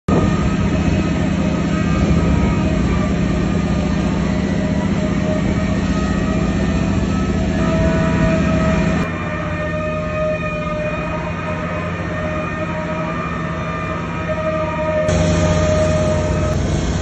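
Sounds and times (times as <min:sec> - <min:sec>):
constant whining tones: 0:00.1 - 0:17.0
drilling rig machinery droning: 0:00.1 - 0:17.0.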